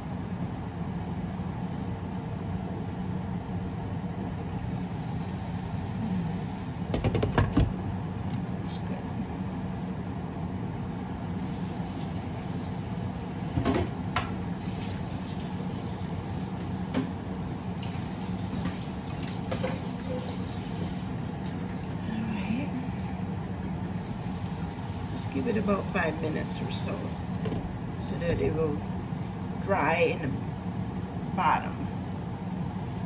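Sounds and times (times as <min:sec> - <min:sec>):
gas flame hissing: 0:00.0 - 0:33.0
pan simmering: 0:00.1 - 0:33.0.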